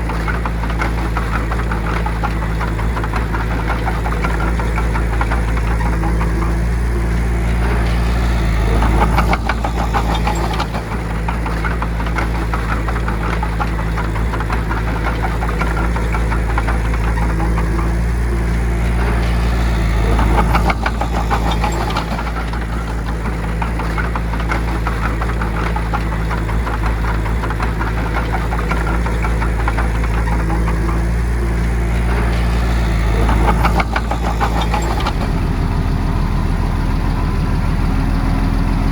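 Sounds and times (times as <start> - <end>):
bulldozer diesel engine running: 0.0 - 38.9
rapid clattering: 0.0 - 38.9.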